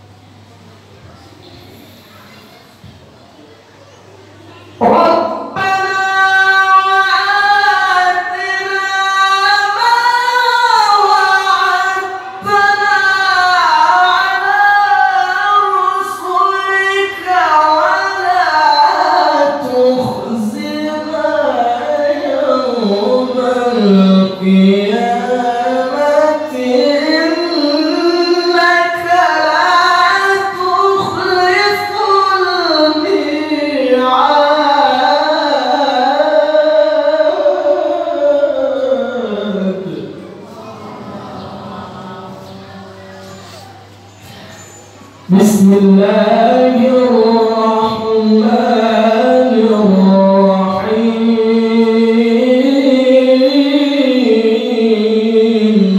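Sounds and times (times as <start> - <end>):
man reciting melodically: 4.5 - 55.9.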